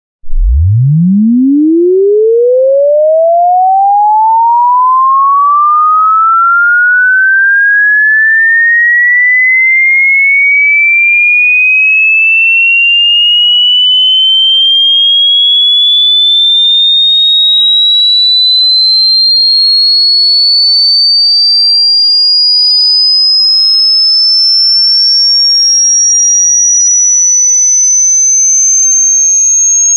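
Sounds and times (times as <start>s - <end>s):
sine tone sweeping upward: 0.2s - 29.9s.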